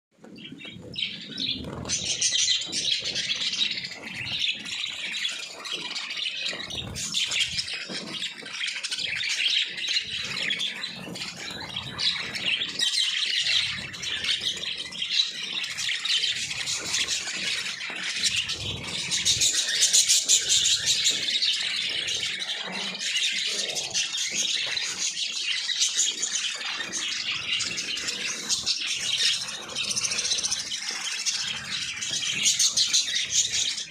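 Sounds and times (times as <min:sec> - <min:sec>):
birds chirping and chattering: 0:00.2 - 0:33.9.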